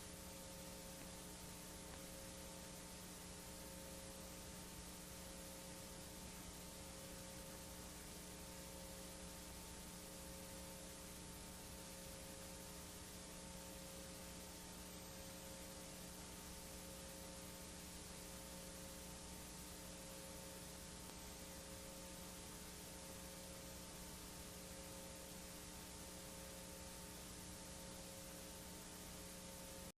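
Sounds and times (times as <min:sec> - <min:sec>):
electrical hum: 0:00.0 - 0:29.9
tape hiss: 0:00.0 - 0:29.9.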